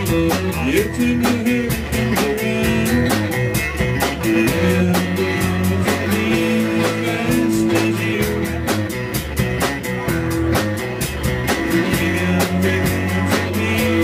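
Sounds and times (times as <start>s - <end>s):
drum kit beat: 0.0s - 14.0s
electric guitar: 0.0s - 14.0s.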